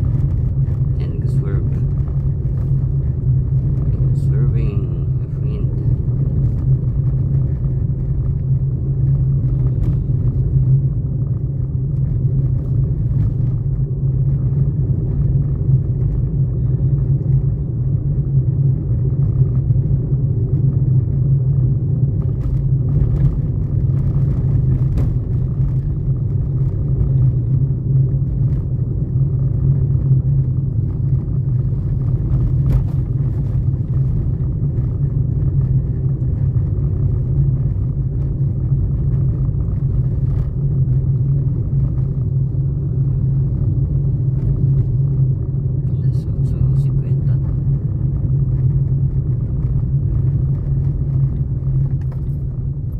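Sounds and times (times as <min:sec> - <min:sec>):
car interior engine and road noise: 0:00.0 - 0:52.9.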